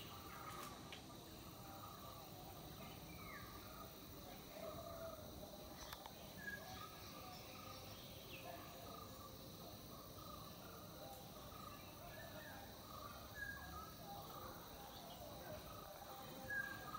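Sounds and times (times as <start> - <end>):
steady outdoor hiss: 0.0 - 16.9.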